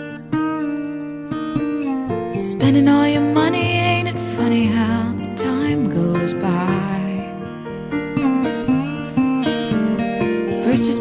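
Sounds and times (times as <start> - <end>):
acoustic guitar picking: 0.0 - 11.0.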